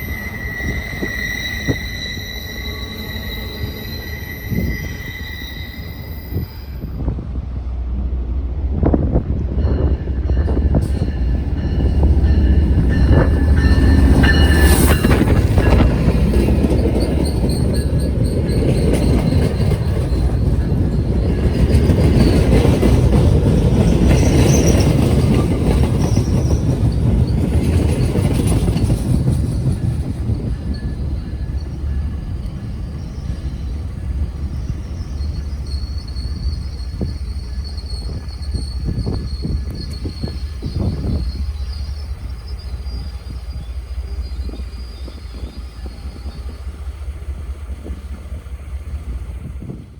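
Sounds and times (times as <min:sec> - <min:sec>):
wheels squealing on rails: 0:00.0 - 0:08.1, 0:08.7 - 0:49.9
train rumbling past: 0:00.0 - 0:49.9.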